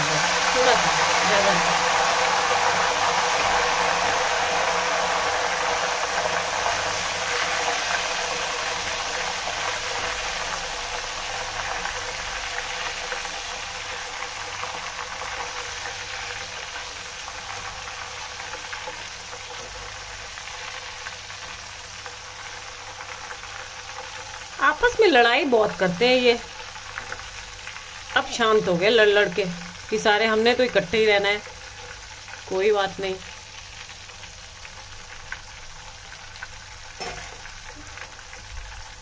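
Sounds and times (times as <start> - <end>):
banana slices sizzling in oil: 0.0 - 39.0.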